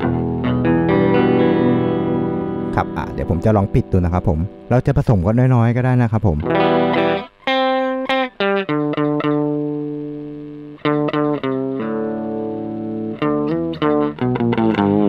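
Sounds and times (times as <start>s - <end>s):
electric guitar with octave effect: 0.0s - 5.7s, 6.3s - 15.0s.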